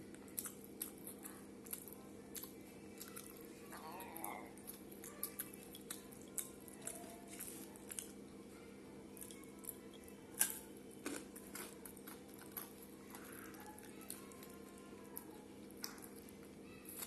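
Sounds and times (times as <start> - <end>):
chewing and wet squishing: 0.0 - 8.5, 9.1 - 17.0.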